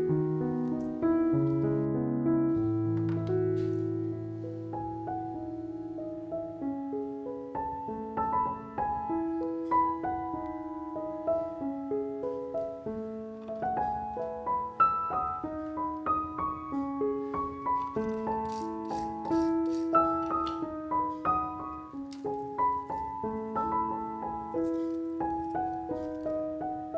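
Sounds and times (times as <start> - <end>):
gentle piano music: 0.0 - 26.9.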